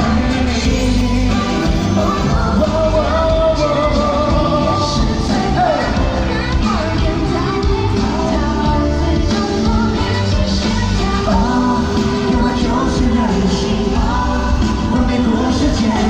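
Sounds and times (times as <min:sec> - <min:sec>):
person singing: 0:00.0 - 0:16.0
rock band with heavy bass: 0:00.0 - 0:16.0.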